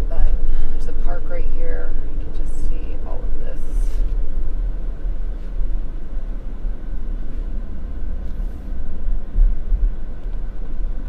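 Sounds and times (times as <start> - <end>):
car driving from inside cabin: 0.0 - 11.0.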